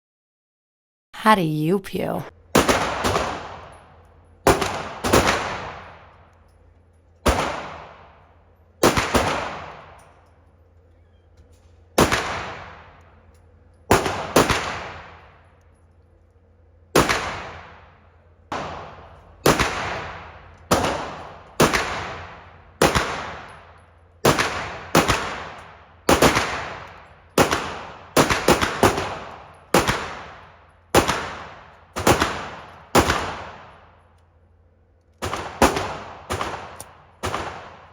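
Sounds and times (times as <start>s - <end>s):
pistol shots with ringing echo: 2.5s - 6.2s, 7.2s - 10.5s, 11.9s - 15.5s, 16.9s - 34.0s, 35.2s - 37.9s.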